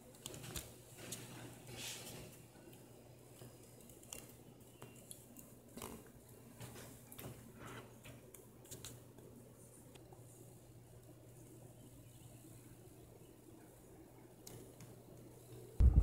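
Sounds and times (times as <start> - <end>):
faint low hum: 2.2 - 16.0.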